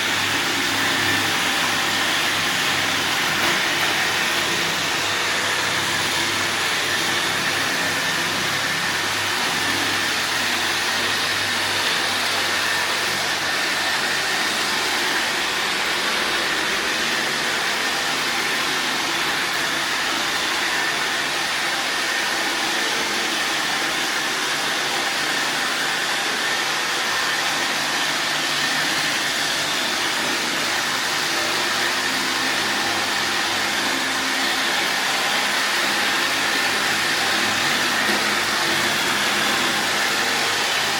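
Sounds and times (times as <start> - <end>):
robot vacuum cleaner whirring: 0.0 - 40.9.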